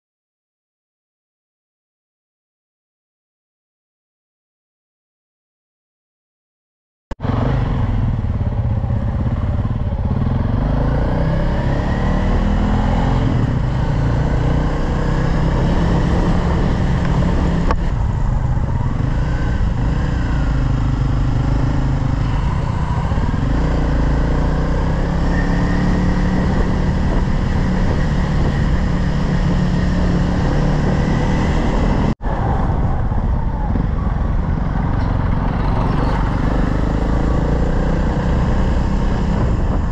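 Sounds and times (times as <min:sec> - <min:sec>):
motorcycle engine running: 0:07.2 - 0:39.9.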